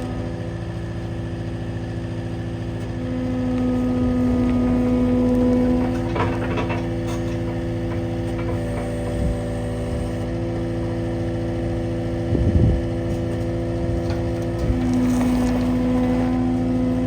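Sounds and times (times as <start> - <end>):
skid steer engine running: 0.0 - 17.0.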